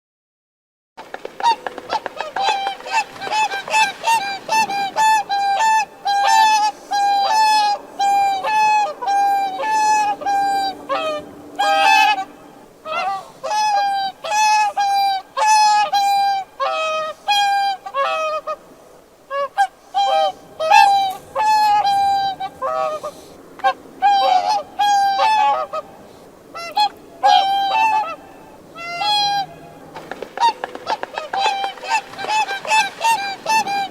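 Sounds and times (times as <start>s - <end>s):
swans calling: 1.3s - 33.9s.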